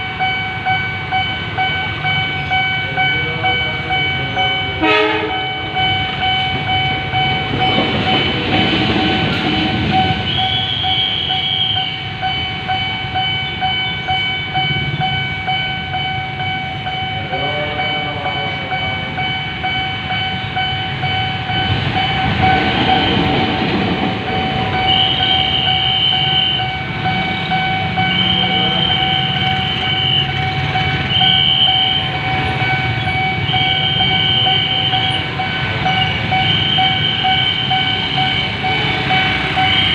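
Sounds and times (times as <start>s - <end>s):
level crossing warning siren: 0.0s - 39.9s
trains rumbling past: 0.0s - 39.9s.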